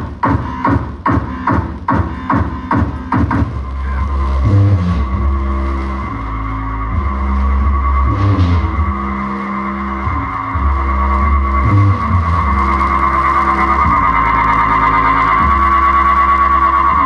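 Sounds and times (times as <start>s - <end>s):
bass-heavy electronic music: 0.0s - 17.0s.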